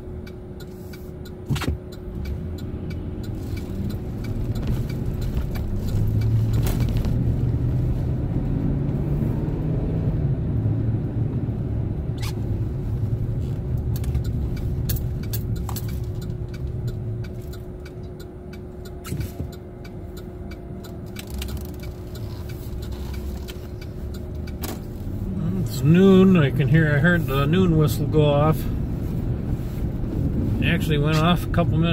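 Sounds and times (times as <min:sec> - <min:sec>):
engine and tyre rumble: 0:00.0 - 0:31.9.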